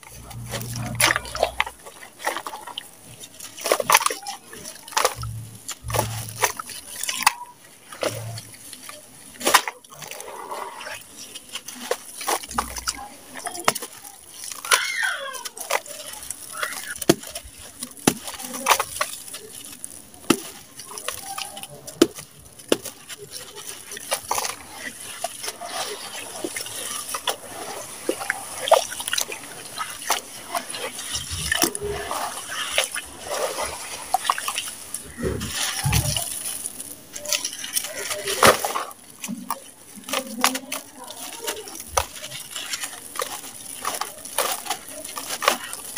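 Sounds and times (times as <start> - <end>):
small water splashes: 0.0 - 45.9
wet grit squelching and crunching: 0.0 - 45.9.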